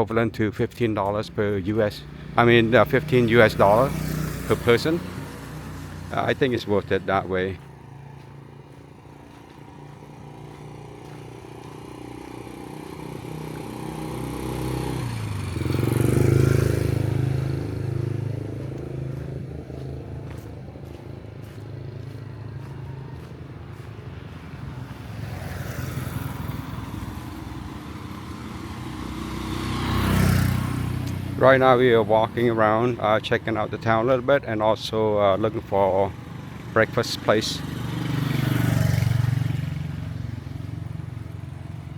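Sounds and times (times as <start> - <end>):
quieter vehicle passing: 0.0 - 41.9
vehicle passing by: 0.8 - 41.9.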